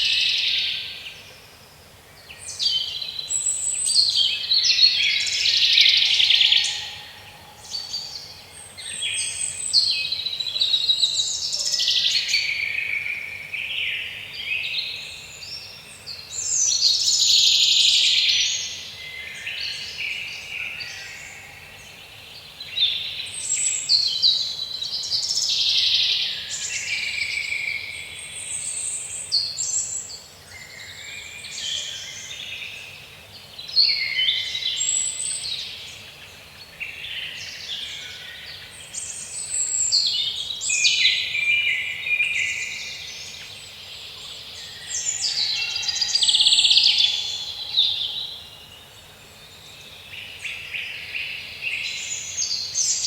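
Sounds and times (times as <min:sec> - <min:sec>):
songbirds chirping and warbling: 0:00.0 - 0:53.0.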